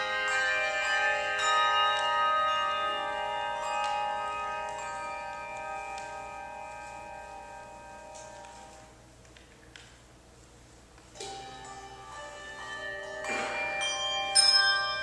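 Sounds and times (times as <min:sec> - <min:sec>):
handbells ringing a chord: 0:00.0 - 0:09.0, 0:11.2 - 0:15.0.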